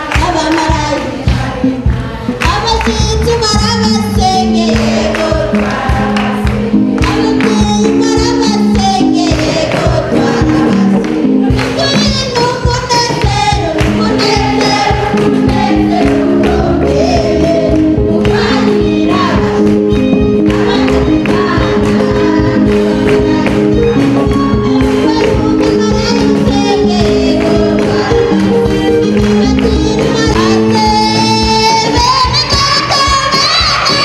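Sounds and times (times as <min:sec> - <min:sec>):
choir singing gospel: 0:00.0 - 0:34.0
percussion beat: 0:00.0 - 0:34.0.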